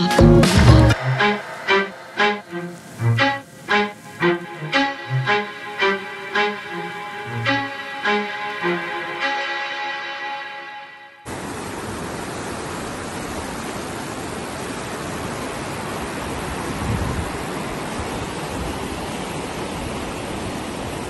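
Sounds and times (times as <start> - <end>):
river rapids rushing: 0.9 - 10.7, 11.3 - 21.0.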